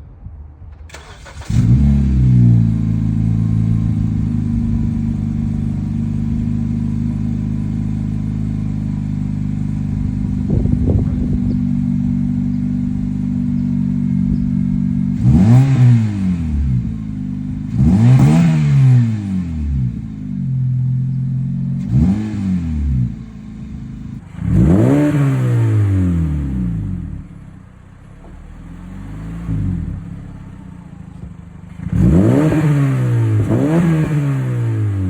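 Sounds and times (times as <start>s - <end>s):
car engine idling and revving: 0.9s - 35.0s.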